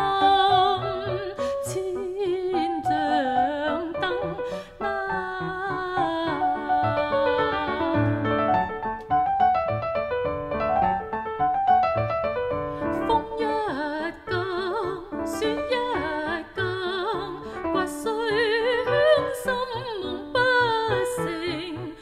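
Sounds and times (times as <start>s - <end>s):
woman singing classical song: 0.0s - 8.7s, 12.8s - 22.0s
piano accompaniment: 0.0s - 22.0s.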